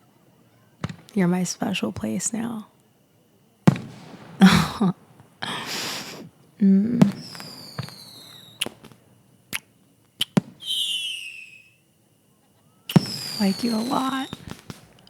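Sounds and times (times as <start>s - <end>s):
whistling firework shells: 0.0s - 15.0s
fireworks bangs and pops: 0.8s - 2.7s, 3.6s - 11.6s, 12.9s - 15.0s.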